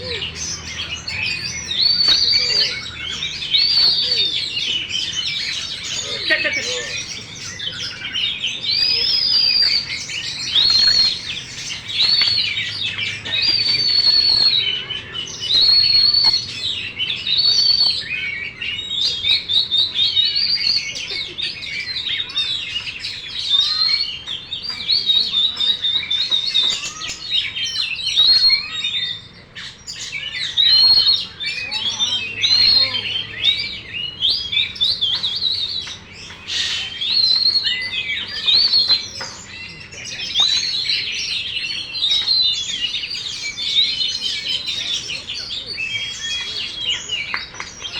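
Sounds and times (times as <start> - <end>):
bird chattering and twittering: 0.0 - 47.9
bird whistling song: 0.0 - 47.9.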